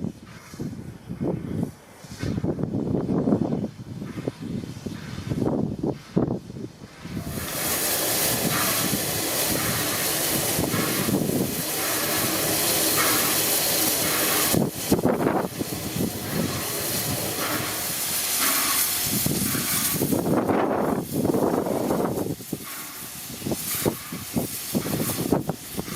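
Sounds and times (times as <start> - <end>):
steam locomotive hissing steam: 0.0 - 25.9.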